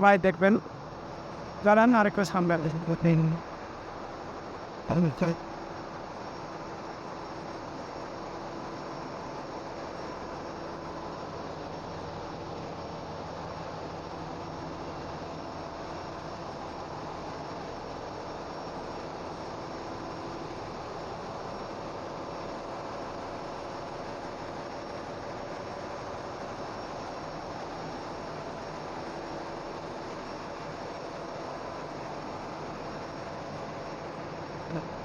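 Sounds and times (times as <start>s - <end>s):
engine room machinery drone: 0.0s - 35.0s
faint steady tones: 0.0s - 35.0s.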